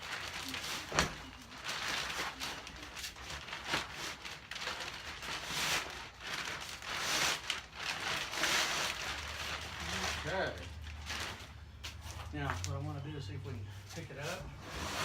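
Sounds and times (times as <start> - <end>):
plastic wrapping crinkling: 0.0 - 12.9.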